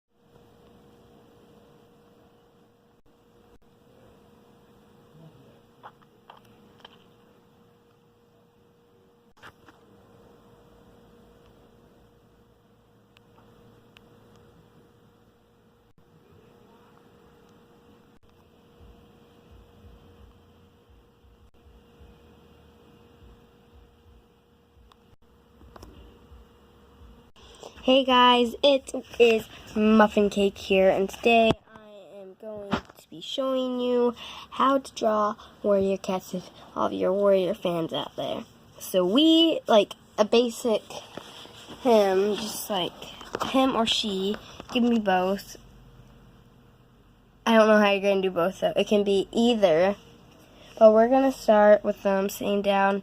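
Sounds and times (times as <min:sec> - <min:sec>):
faint electrical hum: 0:00.2 - 0:53.0.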